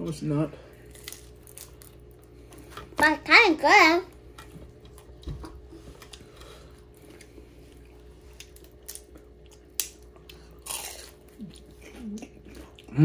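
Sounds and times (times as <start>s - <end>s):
chewing crispy egg rolls: 0.7s - 3.0s, 4.0s - 13.0s.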